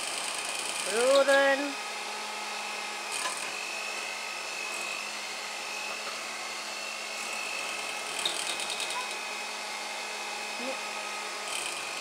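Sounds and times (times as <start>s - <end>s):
mixer rattling: 0.0s - 2.1s, 2.7s - 12.0s
electric hand mixer whining: 0.0s - 12.0s.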